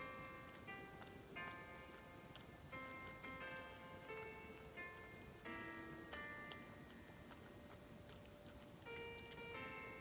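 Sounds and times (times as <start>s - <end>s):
soft music of held chords: 0.0s - 10.0s.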